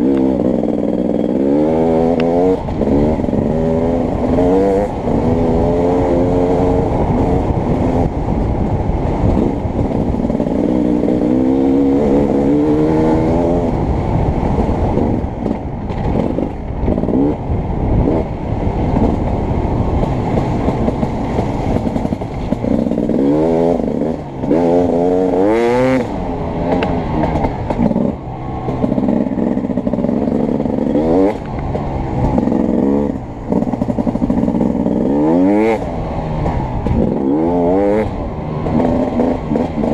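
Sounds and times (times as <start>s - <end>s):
motocross bike engine revving: 0.0s - 8.1s, 9.4s - 13.9s, 15.0s - 17.4s, 19.0s - 39.9s.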